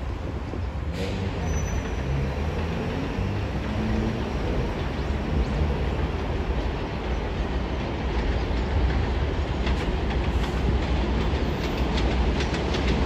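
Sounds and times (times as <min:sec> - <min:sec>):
train rumbling on elevated track: 0:00.0 - 0:13.0.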